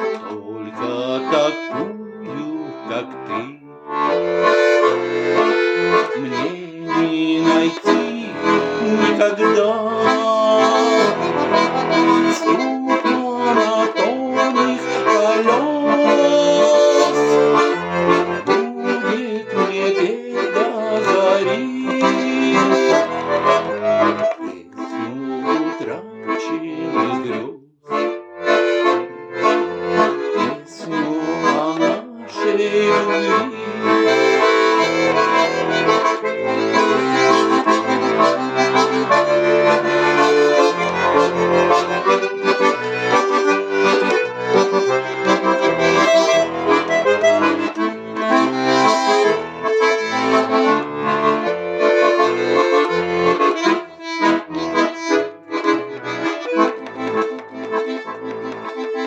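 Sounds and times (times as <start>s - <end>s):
button accordion melody: 0.0s - 59.0s.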